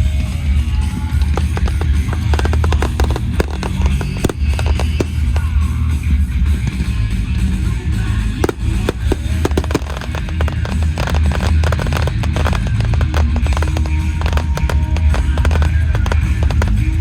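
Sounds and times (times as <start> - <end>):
fireworks crackling: 0.0 - 17.0
fireworks popping: 0.0 - 17.0
music with strong bass: 0.0 - 17.0.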